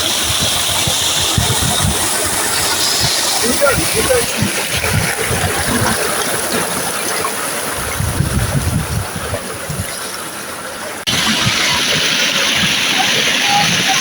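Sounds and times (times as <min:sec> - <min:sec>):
stream water rushing: 0:00.0 - 0:14.0
wind rumbling on microphone: 0:00.0 - 0:14.0.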